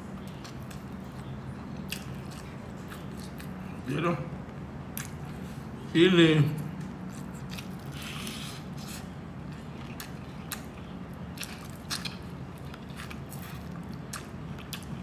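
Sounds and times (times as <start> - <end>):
person chewing crispy pork: 0.1 - 3.9, 4.9 - 5.6, 6.7 - 15.0.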